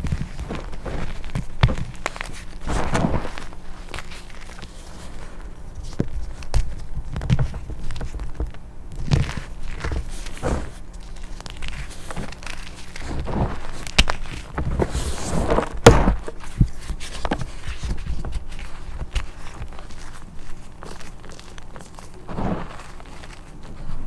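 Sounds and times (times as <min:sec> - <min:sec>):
chalk being crushed by hand: 0:00.0 - 0:24.0.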